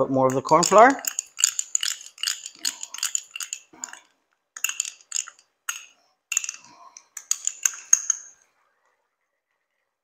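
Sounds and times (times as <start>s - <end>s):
metal spoon clinking in bowl: 0.3s - 8.4s.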